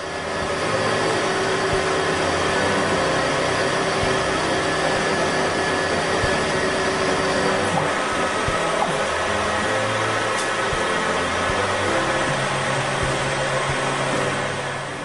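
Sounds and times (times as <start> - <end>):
milling machine cutting metal: 0.0 - 15.0.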